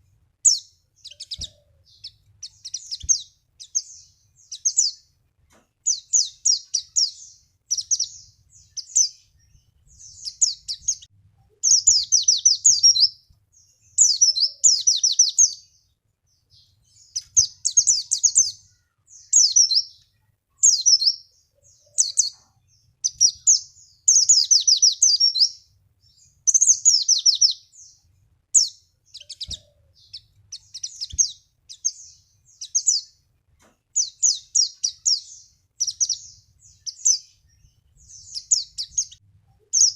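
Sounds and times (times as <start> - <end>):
bird chattering song: 0.4 - 33.2, 33.9 - 39.9.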